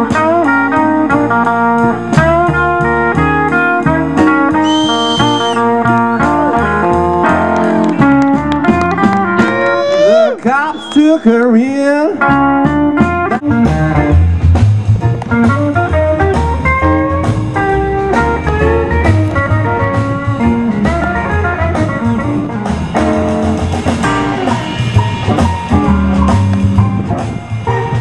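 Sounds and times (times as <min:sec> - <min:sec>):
blues band music: 0:00.0 - 0:28.0
drums steady beat: 0:00.0 - 0:28.0
electric guitar: 0:00.0 - 0:28.0
pulsing bass line: 0:00.0 - 0:28.0.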